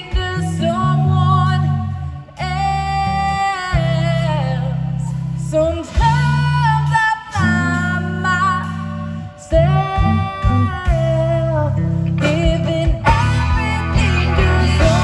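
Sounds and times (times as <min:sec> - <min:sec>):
drums: 0:00.0 - 0:15.0
electric guitar: 0:00.0 - 0:15.0
keyboard: 0:00.0 - 0:15.0
woman singing blues: 0:00.0 - 0:15.0.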